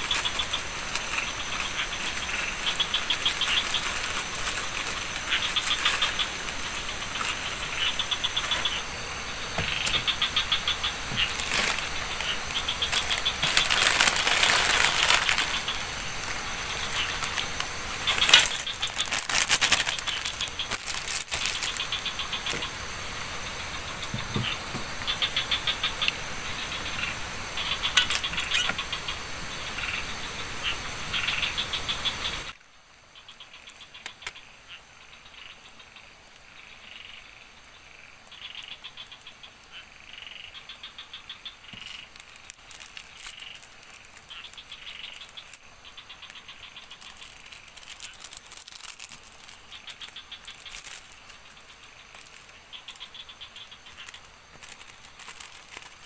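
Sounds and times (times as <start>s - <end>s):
insects chirping in pulsed trills: 0.0s - 56.0s
steady hiss: 0.0s - 56.0s.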